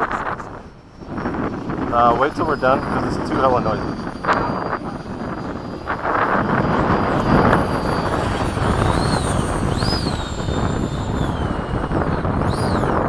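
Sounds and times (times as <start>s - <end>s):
rc jet fan whine: 0.0s - 13.0s
wind buffeting microphone: 0.0s - 13.0s.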